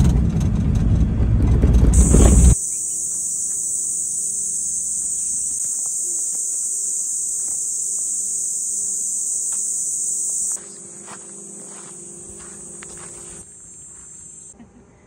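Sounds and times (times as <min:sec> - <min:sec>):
insects shrilling: 0:02.0 - 0:14.5.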